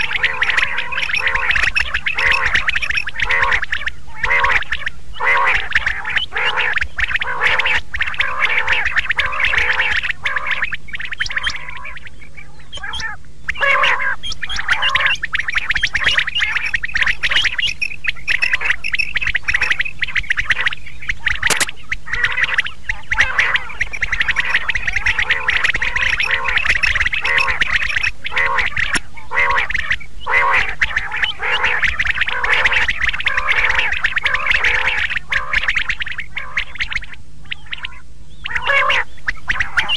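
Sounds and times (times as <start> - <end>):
quails chattering calls: 0.0 - 39.9.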